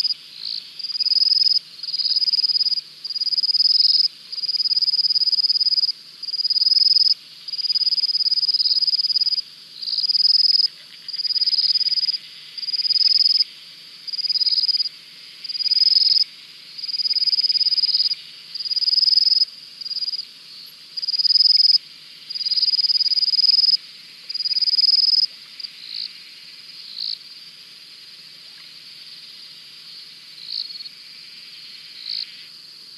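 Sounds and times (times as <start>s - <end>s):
faint animal chorus: 0.0s - 32.9s.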